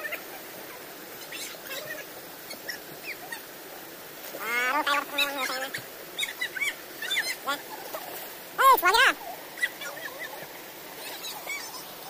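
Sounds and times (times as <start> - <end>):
rocky stream rushing: 0.0 - 12.0.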